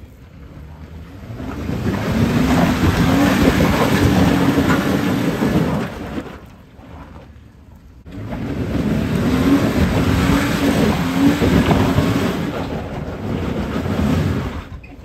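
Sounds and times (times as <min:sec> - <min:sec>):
car engine revving under load: 0:00.0 - 0:07.4, 0:08.0 - 0:14.8.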